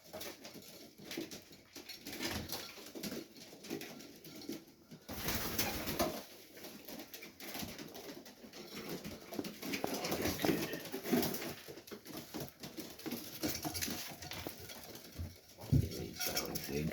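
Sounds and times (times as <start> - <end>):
rustling: 0.0 - 16.9.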